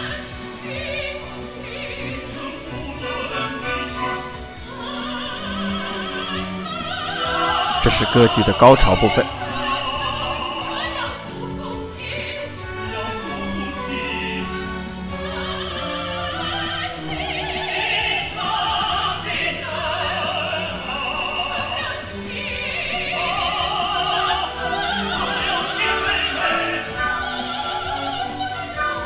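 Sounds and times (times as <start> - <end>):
opera singers singing: 0.0 - 29.0
orchestral accompaniment: 0.0 - 29.0.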